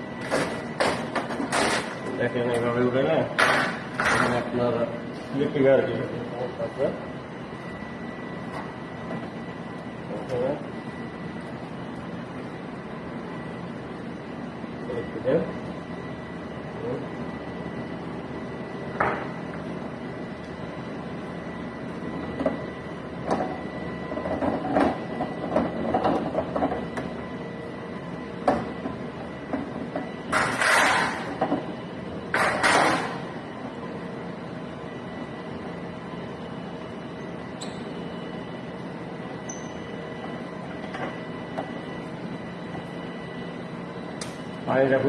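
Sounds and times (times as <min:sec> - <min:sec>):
machine hum with high whine: 0:00.0 - 0:45.0.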